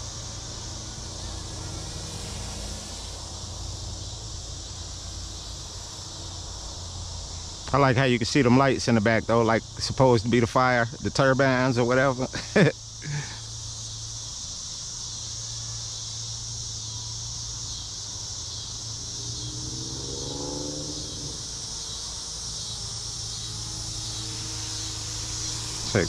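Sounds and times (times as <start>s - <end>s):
crickets and insects chirping: 0.0s - 26.0s
faint whine: 0.0s - 26.0s.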